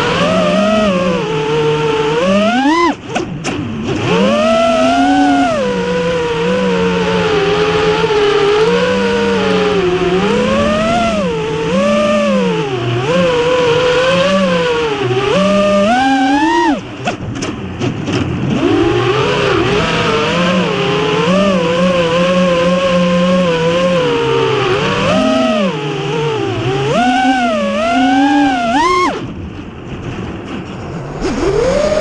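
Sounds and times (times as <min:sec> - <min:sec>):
drone motors whining: 0:00.0 - 0:29.4, 0:30.8 - 0:32.0.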